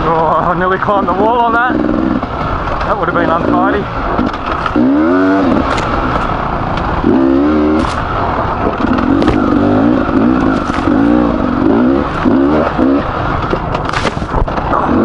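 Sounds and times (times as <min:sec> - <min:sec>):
two-stroke motorcycle engine revving: 0:00.0 - 0:15.0
motorcycle knocks and clatter: 0:01.6 - 0:14.9.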